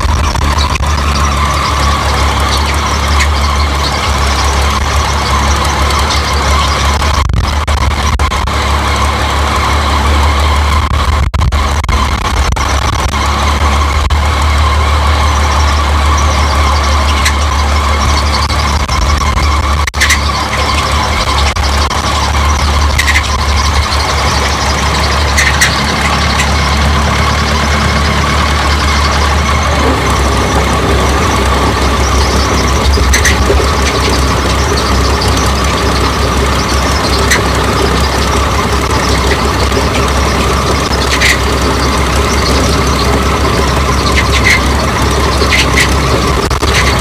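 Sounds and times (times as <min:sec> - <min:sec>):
combine harvester running: 0:00.0 - 0:47.0.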